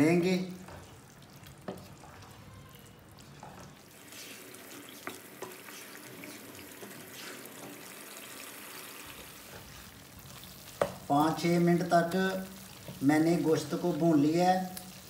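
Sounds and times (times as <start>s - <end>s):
gravy frying in a pan: 0.0s - 15.0s.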